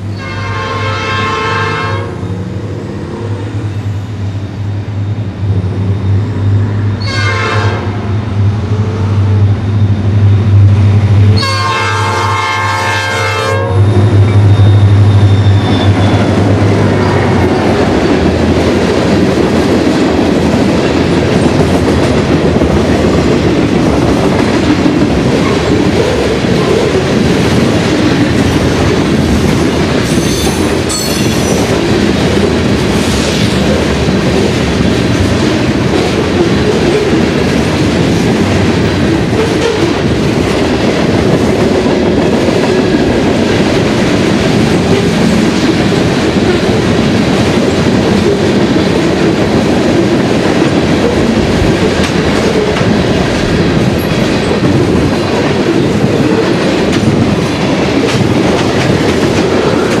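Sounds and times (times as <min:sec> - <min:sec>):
freight train rolling past: 0:00.0 - 1:00.0.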